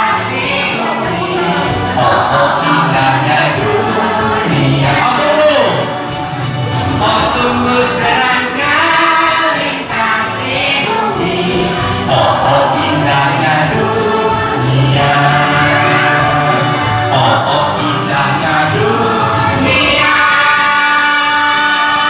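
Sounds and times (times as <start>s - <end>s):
music with singing voices: 0.0s - 22.0s
percussion beat: 0.0s - 22.0s.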